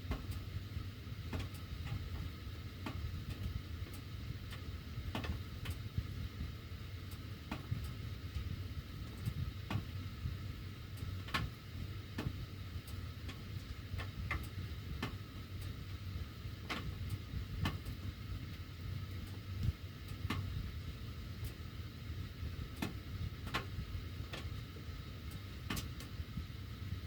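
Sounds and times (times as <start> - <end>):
low rumble of air in ducts: 0.0 - 27.0.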